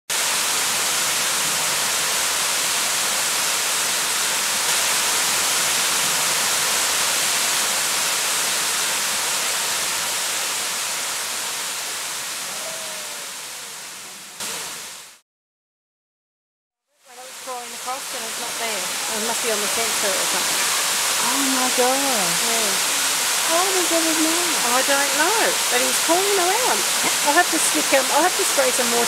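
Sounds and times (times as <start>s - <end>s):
waterfall pouring into pool: 0.1s - 15.2s, 17.2s - 29.0s.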